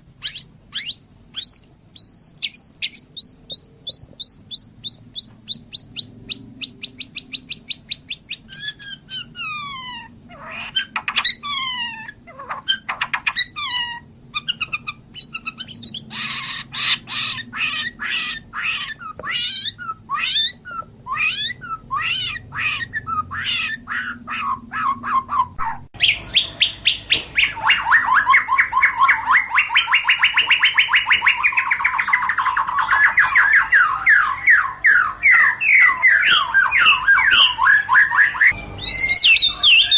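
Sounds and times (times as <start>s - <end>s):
songbird singing: 0.0s - 39.9s
fast rattling bird trill: 0.2s - 39.9s.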